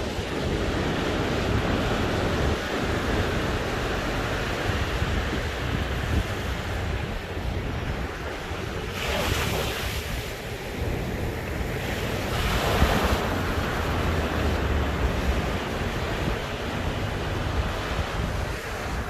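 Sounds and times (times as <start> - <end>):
sea waves breaking on shore: 0.0 - 19.0
wind rumble on microphone: 0.0 - 19.0.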